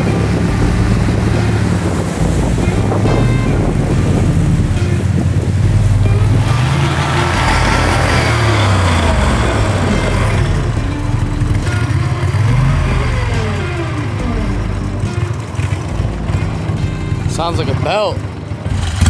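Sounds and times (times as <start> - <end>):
boat motor revving: 0.0 - 19.0.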